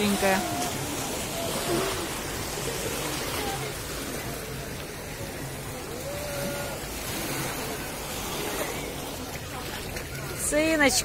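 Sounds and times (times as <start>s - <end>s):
faint distant voices: 0.0s - 11.0s
sea surf washing onto beach: 0.0s - 11.0s.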